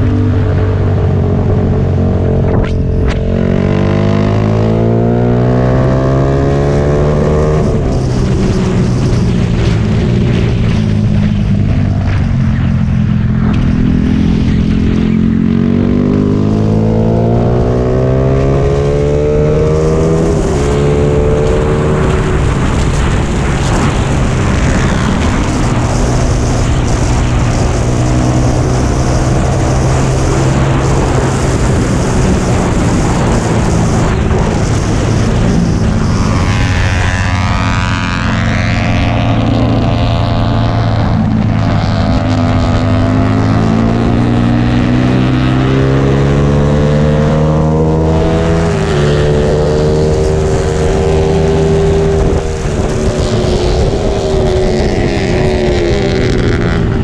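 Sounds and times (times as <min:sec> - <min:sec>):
motorcycle engine pulling hard: 0:00.0 - 0:57.0
wind rush on microphone: 0:00.0 - 0:57.0.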